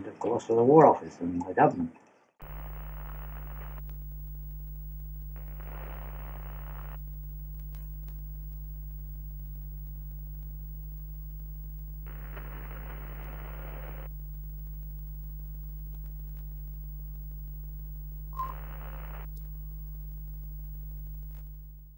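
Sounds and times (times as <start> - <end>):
click: 2.4 - 17.4, 18.4 - 21.7
low electrical hum: 2.4 - 21.9
static hiss: 2.4 - 21.9.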